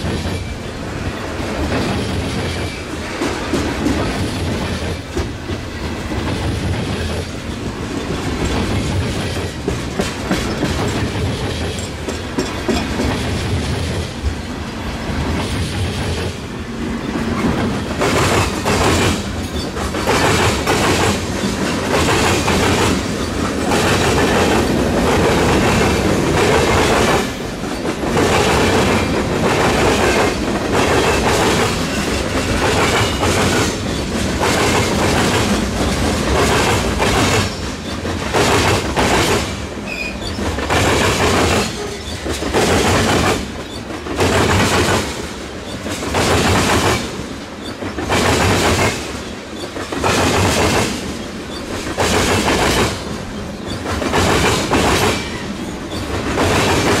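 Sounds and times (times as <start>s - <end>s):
train wheels clattering over rail joints: 0.0s - 14.5s, 15.2s - 57.0s.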